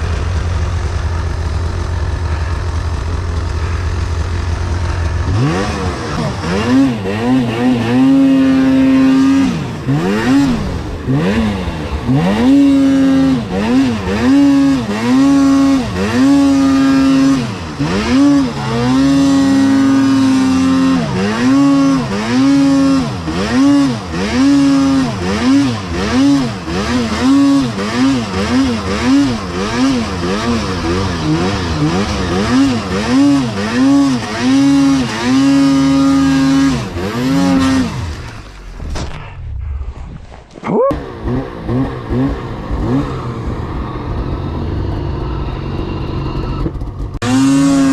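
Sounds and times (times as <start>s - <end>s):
snowmobile engine revving: 0.0s - 47.9s.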